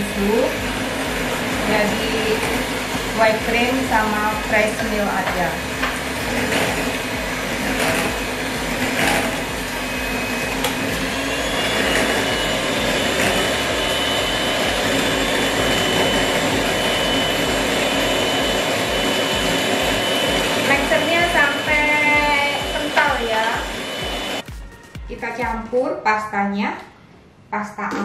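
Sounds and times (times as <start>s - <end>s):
electric hand mixer whipping cream: 0.0s - 24.4s.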